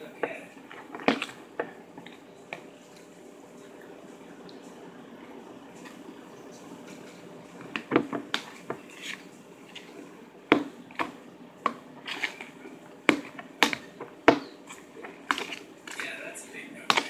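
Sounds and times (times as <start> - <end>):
spoon stirring thick slime: 0.3 - 3.8, 5.7 - 17.0.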